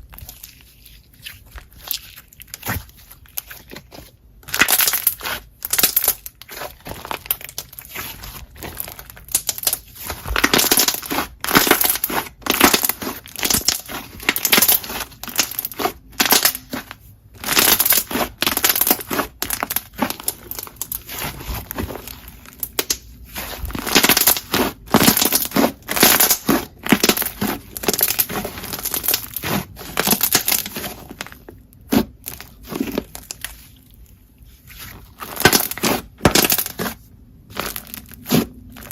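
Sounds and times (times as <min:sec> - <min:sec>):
slime squishing: 0:00.0 - 0:38.9.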